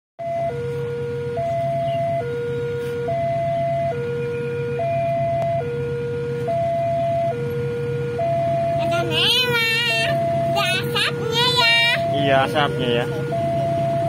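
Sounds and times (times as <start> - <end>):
two-tone level crossing alarm: 0.2 - 14.0.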